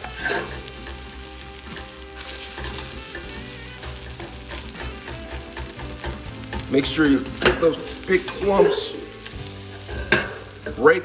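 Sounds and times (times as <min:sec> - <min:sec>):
spatula scraping a pot: 0:00.0 - 0:10.7
rice sizzling in a pot: 0:00.0 - 0:11.0.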